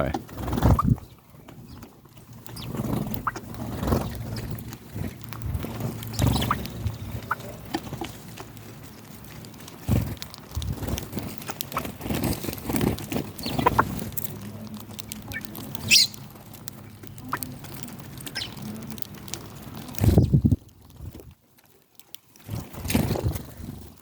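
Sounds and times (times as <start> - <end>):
chickens murmuring: 0.0 - 20.6
small birds chirping: 0.0 - 21.2
chickens pecking at feed: 0.0 - 24.0.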